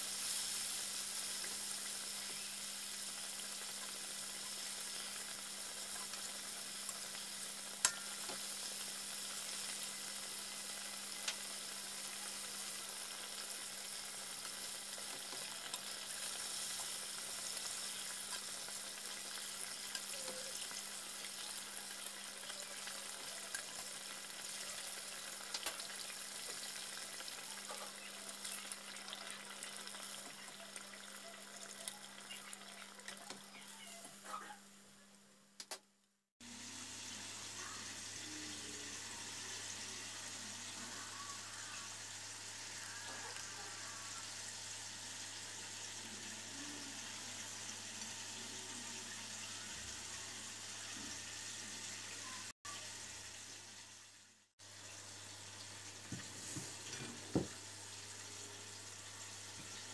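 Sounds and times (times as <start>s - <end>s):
oil sizzling: 0.0s - 34.7s, 36.4s - 59.9s.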